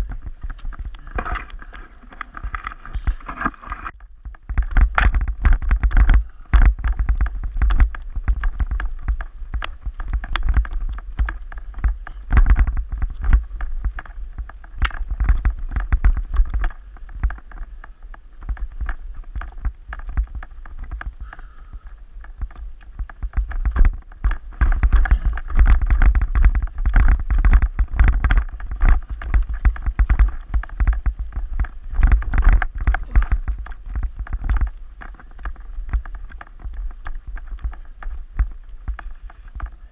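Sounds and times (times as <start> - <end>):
bike clattering over rough ground: 0.0 - 39.9
wind rumble on microphone: 0.0 - 39.9.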